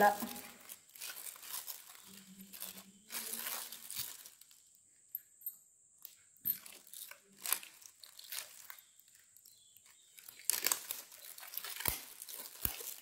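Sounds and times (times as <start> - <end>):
plastic bag crinkling: 0.0 - 4.8, 6.0 - 13.0.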